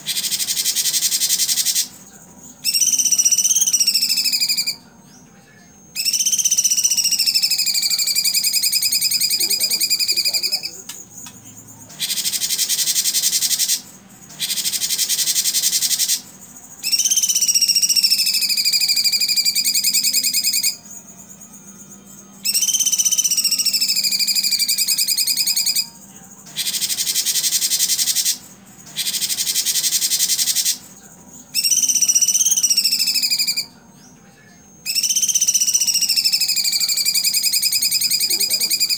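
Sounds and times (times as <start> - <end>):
bird whistling and rattling song: 0.0 - 2.0, 2.6 - 5.2, 5.9 - 11.3, 11.9 - 21.3, 22.4 - 30.9, 31.5 - 33.8, 34.7 - 38.9.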